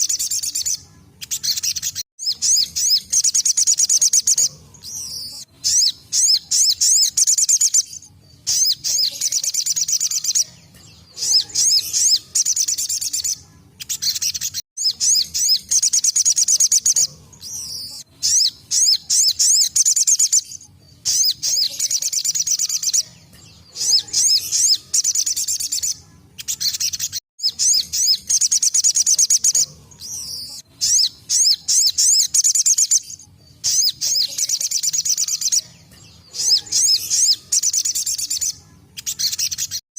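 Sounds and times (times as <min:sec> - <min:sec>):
high-pitched bird trill: 0:00.0 - 0:39.8.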